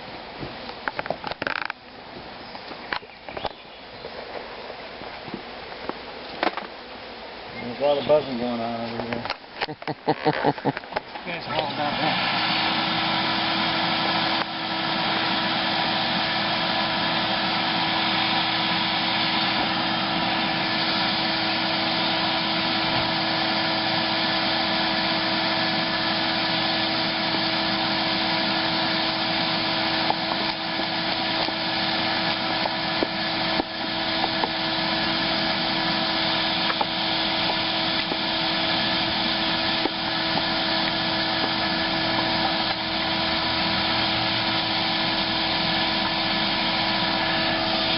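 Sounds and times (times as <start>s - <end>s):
vacuum motor humming: 0.0s - 47.9s.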